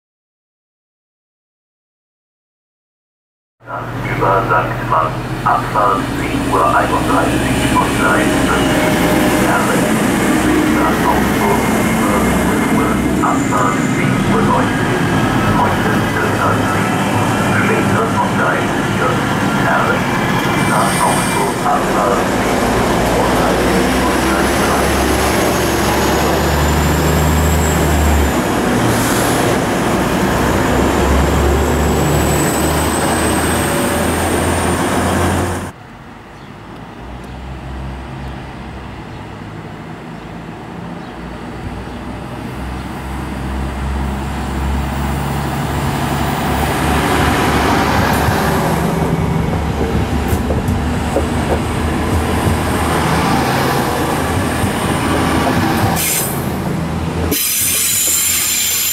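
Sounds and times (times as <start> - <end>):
diesel train engine hum: 3.6 - 58.9.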